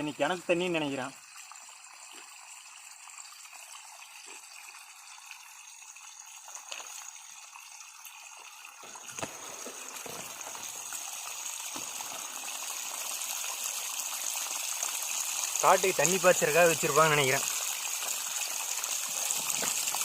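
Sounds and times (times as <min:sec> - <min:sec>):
water gushing and splashing: 0:01.5 - 0:20.0.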